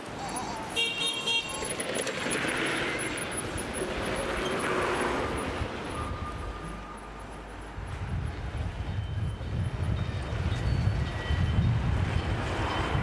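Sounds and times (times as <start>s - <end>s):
scooters and cars passing: 0.0s - 13.0s.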